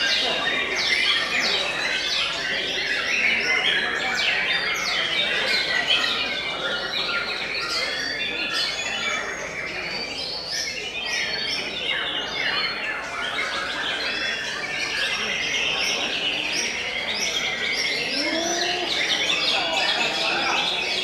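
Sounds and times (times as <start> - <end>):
many birds singing: 0.0 - 21.0.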